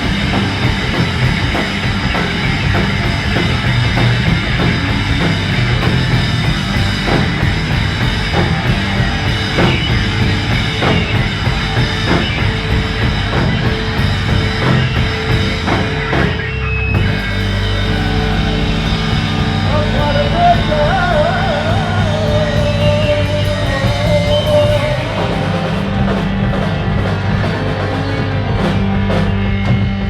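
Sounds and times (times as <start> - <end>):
live rock band playing: 0.0 - 30.0
pounding drums: 0.0 - 30.0.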